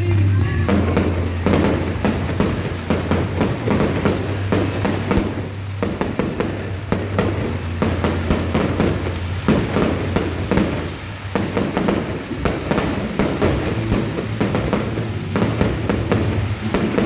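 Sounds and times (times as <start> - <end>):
fireworks bursting with sharp bangs: 0.0 - 17.0
steady low hum: 0.0 - 17.0.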